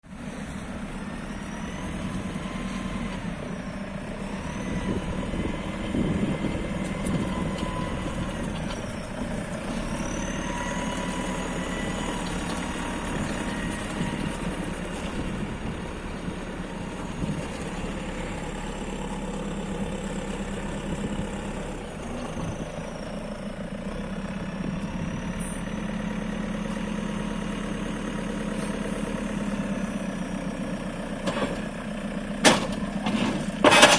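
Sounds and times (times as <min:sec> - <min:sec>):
diesel engine idling: 0:00.0 - 0:33.7.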